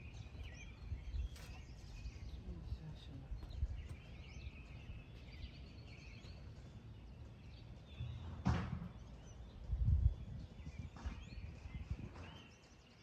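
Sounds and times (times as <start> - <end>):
wind rumble on microphone: 0.0 - 12.9
birds chirping and trilling: 0.0 - 13.0.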